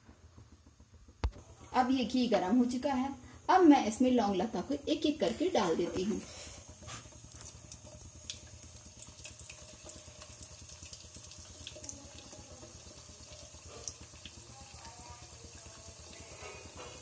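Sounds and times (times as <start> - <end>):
low steady hum: 0.0 - 17.0
pastries deep-frying sizzle: 0.0 - 17.0.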